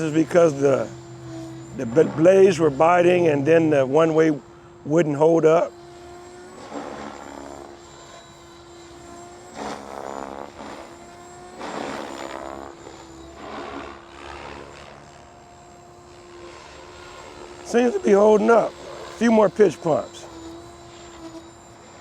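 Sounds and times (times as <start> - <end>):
helicopter rotor and motor whine: 0.0 - 22.0.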